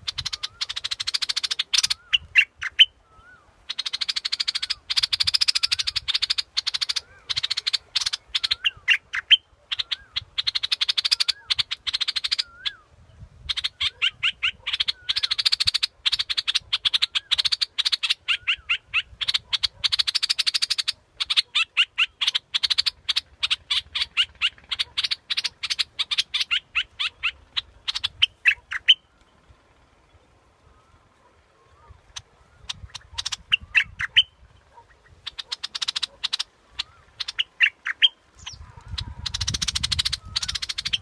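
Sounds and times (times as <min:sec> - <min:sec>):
bulbul calling: 0:00.0 - 0:41.0.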